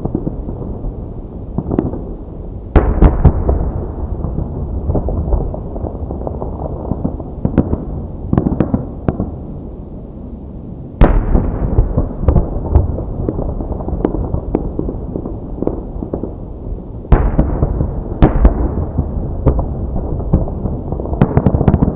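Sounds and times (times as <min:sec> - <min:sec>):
fireworks crackling: 0:00.0 - 0:09.7, 0:11.0 - 0:21.9
fireworks shells booming: 0:01.6 - 0:09.4, 0:11.0 - 0:21.9.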